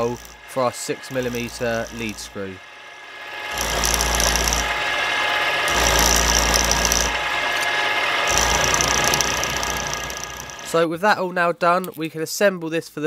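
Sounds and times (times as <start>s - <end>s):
drill cutting steel: 0.0s - 10.8s
milling machine motor hum: 0.0s - 10.8s.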